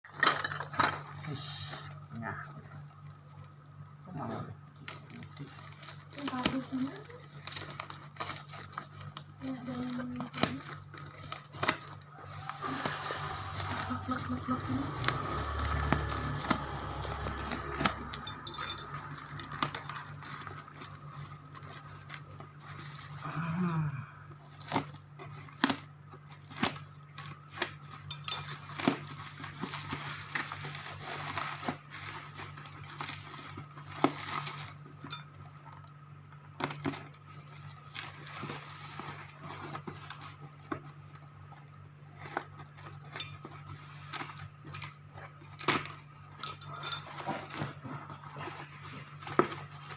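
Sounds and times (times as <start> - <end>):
packaging rustling and crackling: 4.5 - 23.5, 24.3 - 49.9.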